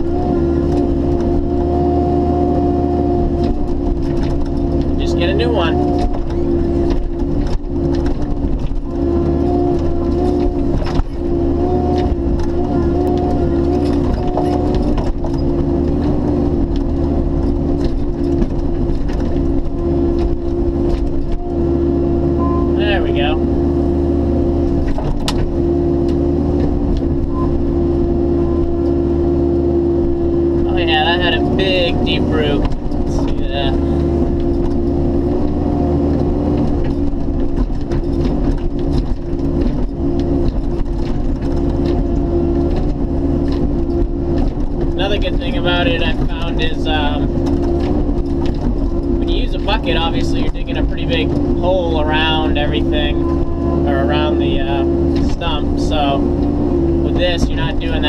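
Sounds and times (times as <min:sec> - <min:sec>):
excavator diesel engine running: 0:00.0 - 0:58.0
hydraulic whine: 0:00.0 - 0:58.0.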